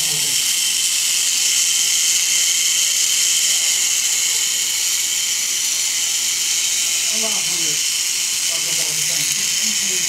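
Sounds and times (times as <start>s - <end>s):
toy gears whirring and rattling: 0.0s - 10.0s.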